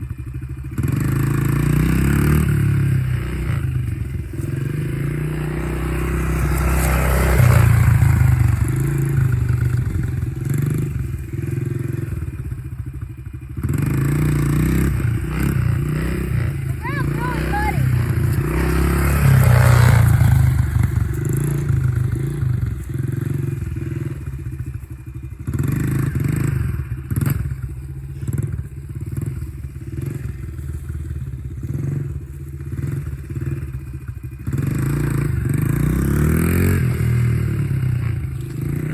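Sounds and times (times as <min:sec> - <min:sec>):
dirt bike engine revving: 0:00.7 - 0:38.9.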